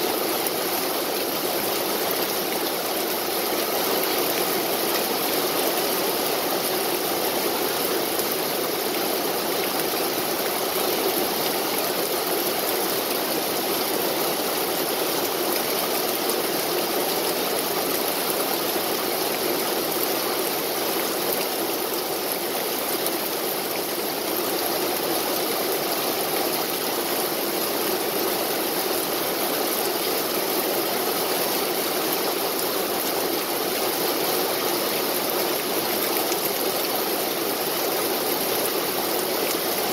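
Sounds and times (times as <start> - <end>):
rain on leaves and grass: 0.0 - 39.9.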